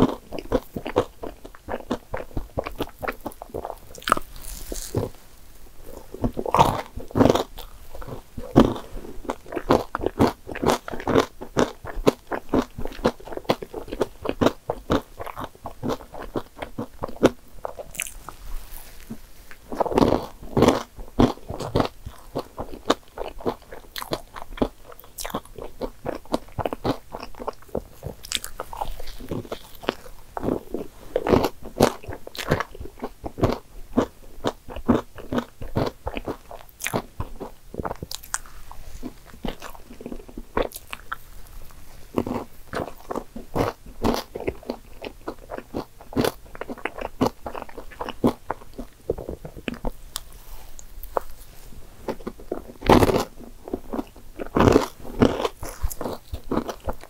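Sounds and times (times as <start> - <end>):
person chewing with mouth clicks: 0.0 - 5.2, 5.8 - 57.0.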